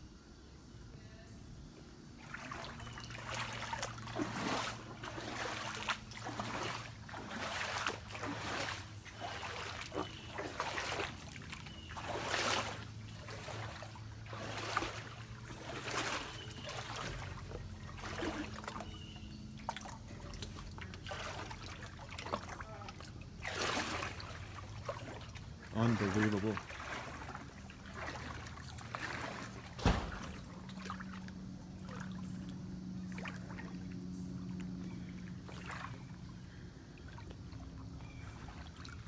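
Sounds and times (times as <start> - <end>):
footsteps splashing through water: 2.1 - 39.0.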